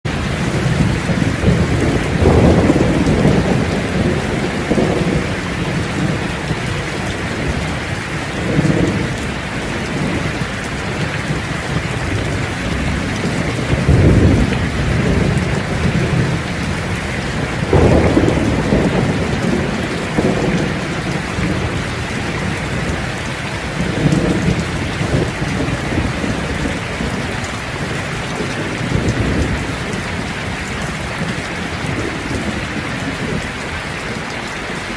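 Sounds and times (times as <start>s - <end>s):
heavy rain hissing: 0.1s - 34.9s.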